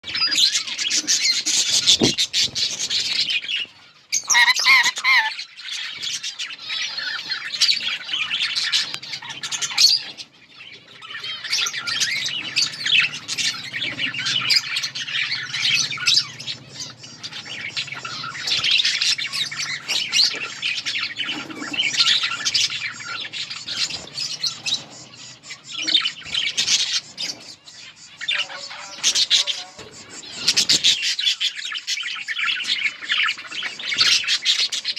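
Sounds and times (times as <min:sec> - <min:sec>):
budgerigars chattering and chirping: 0:00.0 - 0:34.9.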